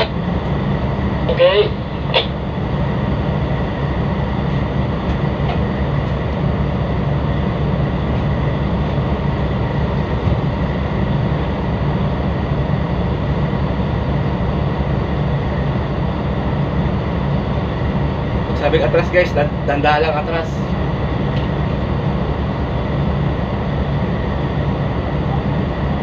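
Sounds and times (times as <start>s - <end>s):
diesel engines droning: 0.0s - 26.0s.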